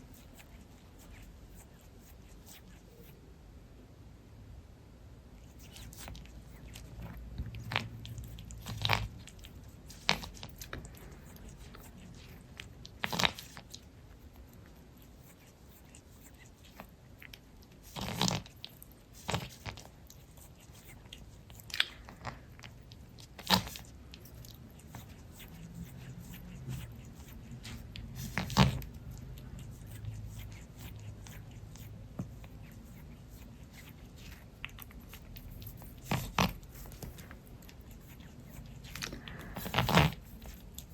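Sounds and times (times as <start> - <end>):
cat licking mouth sounds: 5.4 - 40.9.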